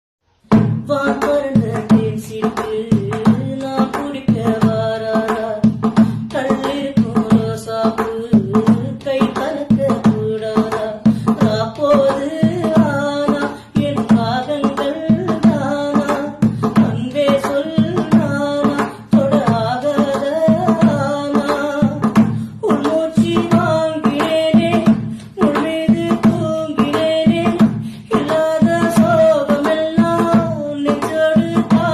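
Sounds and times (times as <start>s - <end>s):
driving drum beat: 0.4s - 31.9s
person singing: 0.9s - 31.9s.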